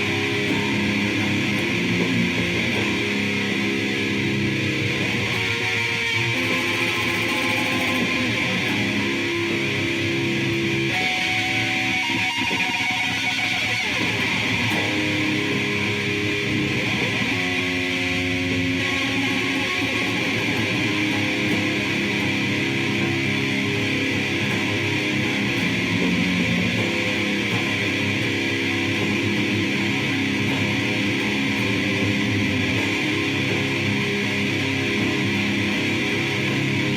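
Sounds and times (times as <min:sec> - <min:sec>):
distorted electric guitar chords: 0:00.0 - 0:36.9.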